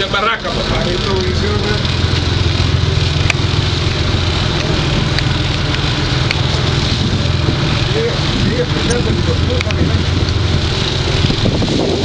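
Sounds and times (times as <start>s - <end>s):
boat engine running: 0.0s - 12.0s
wind and water rushing: 0.0s - 12.0s.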